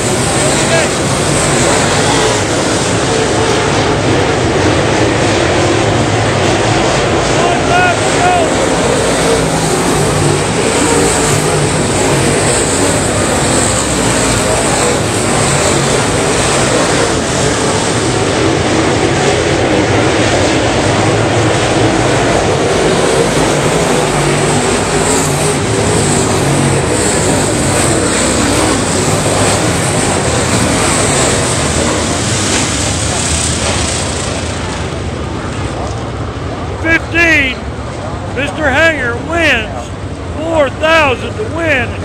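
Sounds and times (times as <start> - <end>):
race car engines droning: 0.0 - 42.0.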